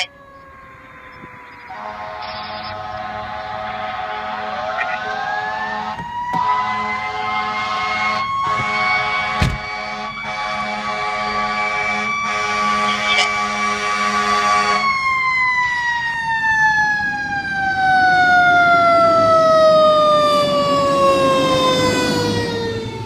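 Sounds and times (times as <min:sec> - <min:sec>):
fire truck siren wailing: 0:00.0 - 0:23.0
truck engine rumble: 0:00.0 - 0:23.0.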